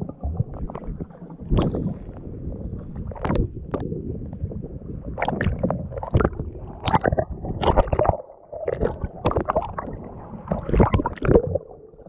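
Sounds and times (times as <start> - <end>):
underwater gurgling: 0.0 - 12.0
water sloshing and splashing: 0.0 - 12.0.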